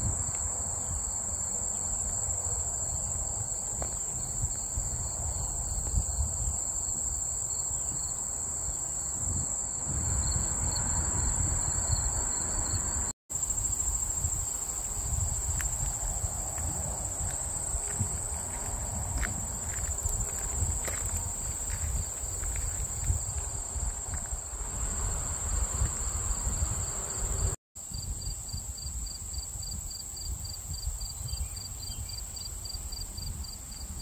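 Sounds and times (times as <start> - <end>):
shrill insect chorus: 0.0 - 34.0.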